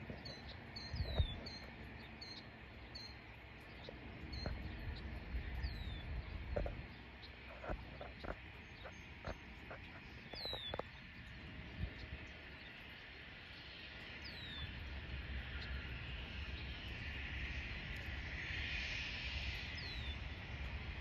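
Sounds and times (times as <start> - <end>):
small birds chirping: 0.0 - 17.3, 19.5 - 20.4.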